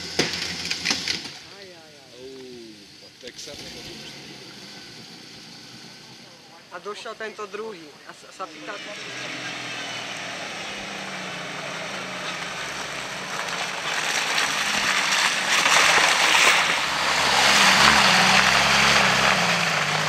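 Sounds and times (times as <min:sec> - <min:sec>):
car engine under load: 0:00.0 - 0:20.0
tyres splashing through mud: 0:03.3 - 0:20.0.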